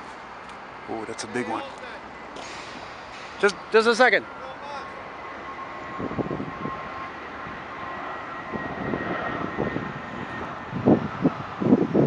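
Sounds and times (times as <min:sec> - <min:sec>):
faint high whine: 0:00.0 - 0:11.5.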